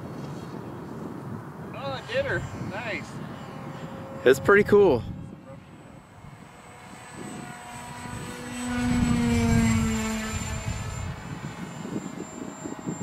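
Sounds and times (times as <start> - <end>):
model airplane motor droning: 0.2 - 13.0.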